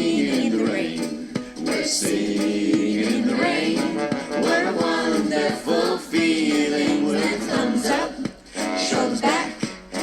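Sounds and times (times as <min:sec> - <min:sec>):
children's song music: 0:00.0 - 0:10.0.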